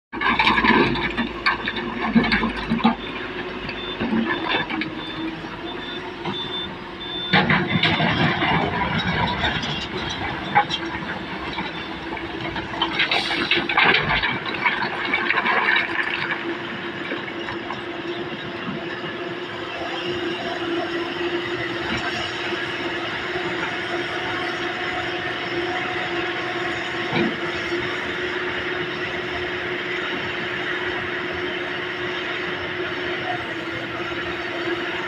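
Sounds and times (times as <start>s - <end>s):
excavator diesel engine: 0.1s - 35.0s.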